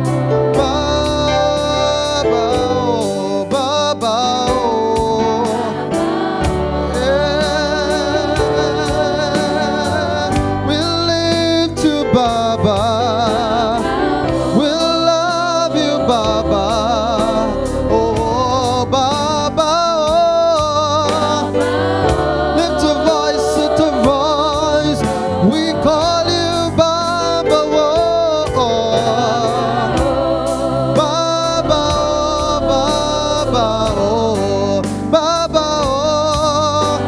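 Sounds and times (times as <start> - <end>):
band playing: 0.0 - 37.0
person singing with vibrato: 0.0 - 37.0
steady drum beat: 0.0 - 37.0
sustained bass notes: 0.0 - 37.0.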